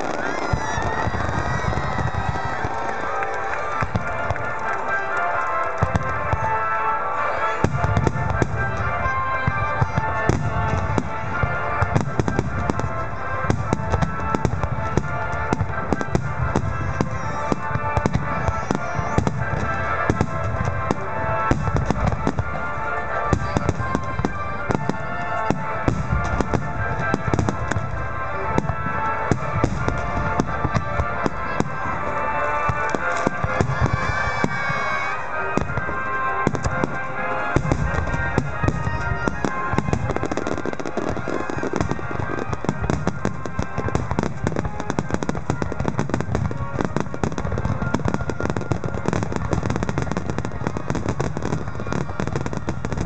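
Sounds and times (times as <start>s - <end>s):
fireworks deep booms: 0.0s - 6.7s, 7.3s - 53.0s
fireworks cracking and crackling: 0.0s - 53.0s
music playing: 0.0s - 53.0s.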